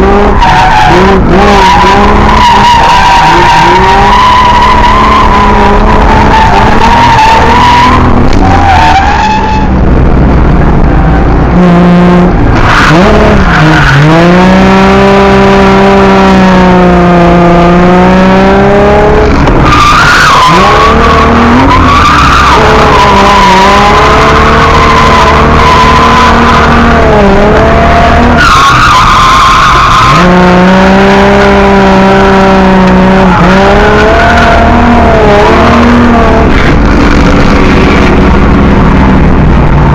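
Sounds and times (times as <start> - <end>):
car engine at high revs: 0.0 - 39.9
tyres skidding: 0.0 - 39.9.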